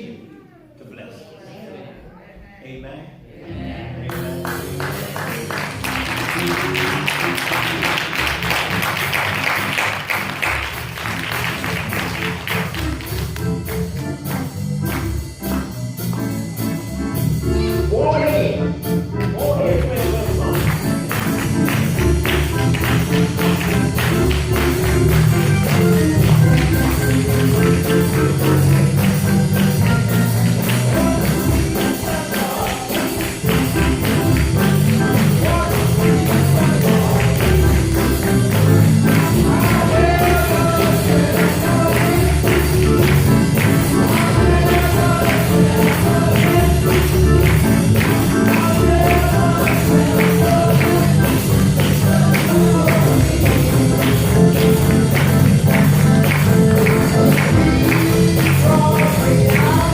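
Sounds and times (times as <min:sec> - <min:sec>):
upbeat church band music: 0:02.0 - 0:59.9.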